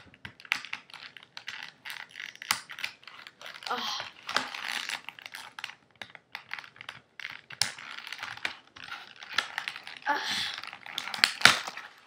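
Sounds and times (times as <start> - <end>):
plastic packaging clicking and crinkling: 0.0 - 12.0.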